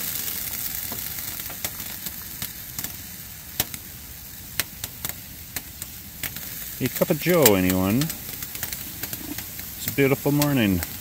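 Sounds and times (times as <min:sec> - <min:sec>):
sharp pops: 0:00.0 - 0:03.9, 0:04.5 - 0:11.0.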